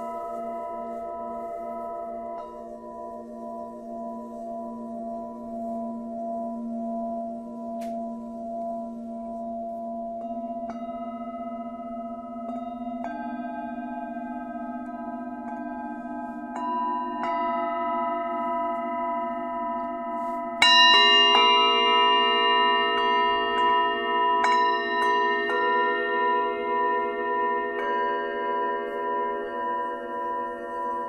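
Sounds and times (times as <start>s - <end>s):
singing bowls ringing: 0.0s - 31.0s.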